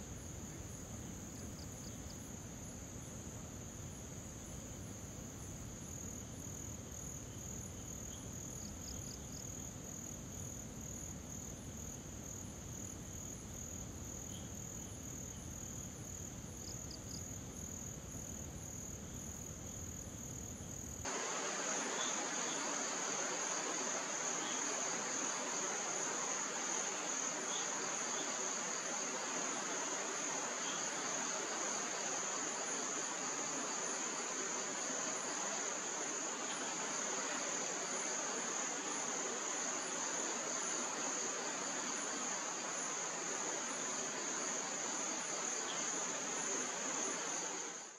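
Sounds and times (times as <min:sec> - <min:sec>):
crickets chirring: 0:00.0 - 0:47.9
faint insect chirps: 0:00.0 - 0:47.9.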